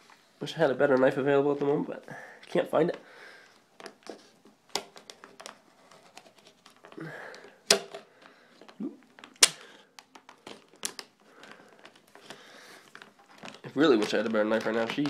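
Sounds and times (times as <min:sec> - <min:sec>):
plastic clicks and snaps: 0:02.4 - 0:15.0
knife scraping plastic: 0:02.5 - 0:15.0.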